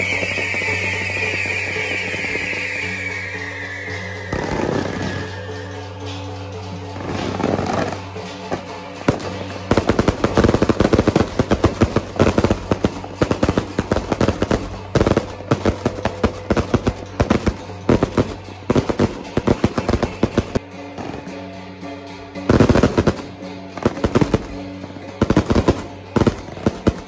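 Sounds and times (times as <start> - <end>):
firecrackers cracking rapidly: 0.0 - 6.2, 6.9 - 21.7, 22.3 - 27.0
festival music with held tones: 0.0 - 27.0.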